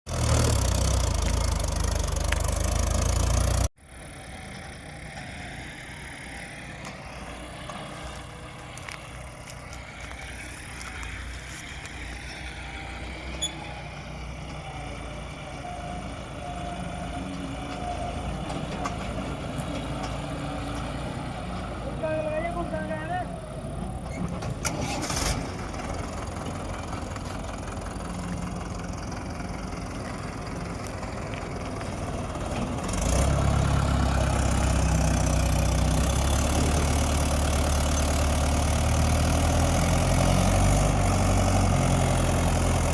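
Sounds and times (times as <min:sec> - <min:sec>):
tractor engine running: 0:00.1 - 0:42.9.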